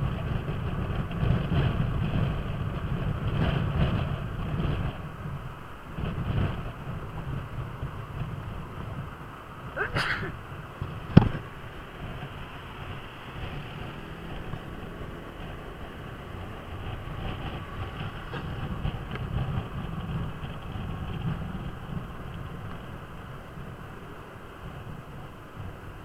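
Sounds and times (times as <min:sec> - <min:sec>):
scooter engine and road noise: 0:00.0 - 0:26.0.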